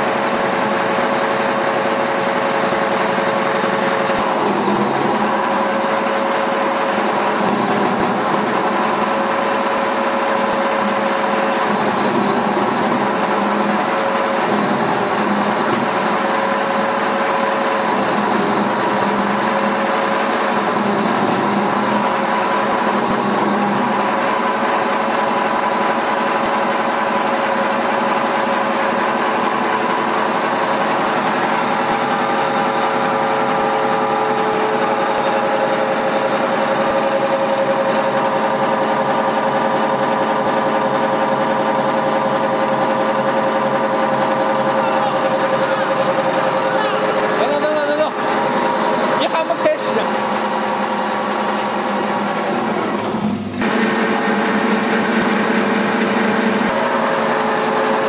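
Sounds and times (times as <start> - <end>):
feed crumbler machine droning: 0.0 - 58.0
steady machine whine: 0.0 - 58.0.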